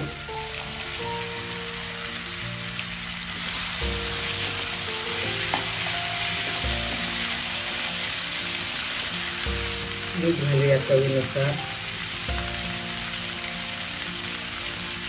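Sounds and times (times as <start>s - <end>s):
beans sizzling in hot oil: 0.0s - 15.0s.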